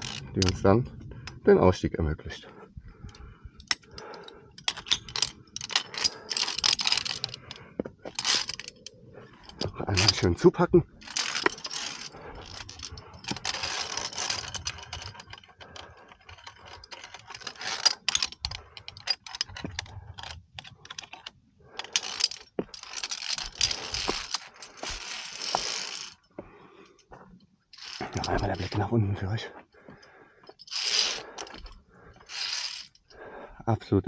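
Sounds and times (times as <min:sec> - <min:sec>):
carabiners clicking on steel cable: 0:00.0 - 0:01.4, 0:03.0 - 0:33.3.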